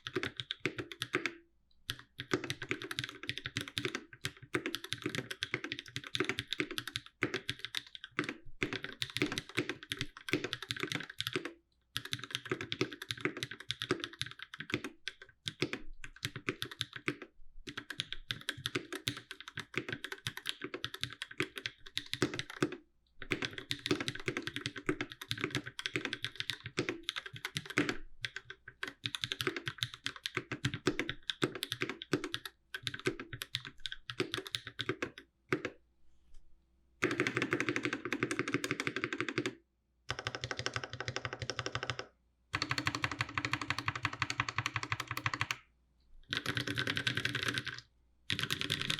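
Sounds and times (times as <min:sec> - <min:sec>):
mechanical keyboard typing: 0:00.0 - 0:35.8, 0:37.0 - 0:45.6, 0:46.3 - 0:48.9.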